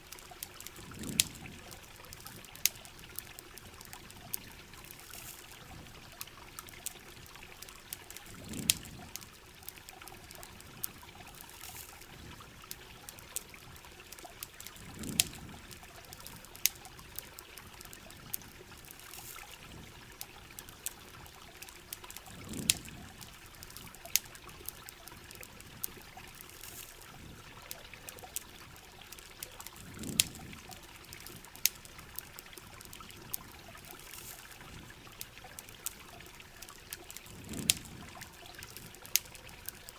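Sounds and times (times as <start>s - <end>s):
campfire crackles: 0.0s - 39.9s
water trickling and pouring: 0.0s - 39.9s.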